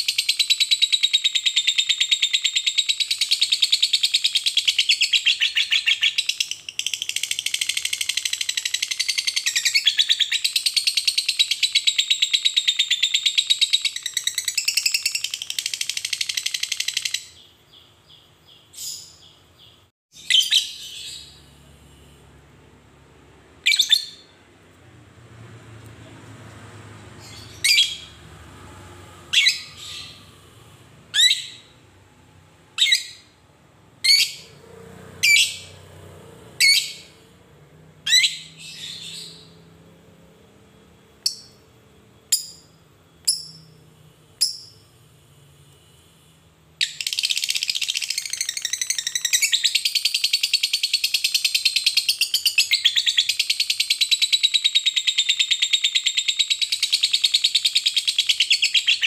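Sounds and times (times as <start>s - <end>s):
bird chirping: 0.0s - 22.4s, 23.4s - 40.4s, 41.2s - 45.0s, 46.8s - 59.0s.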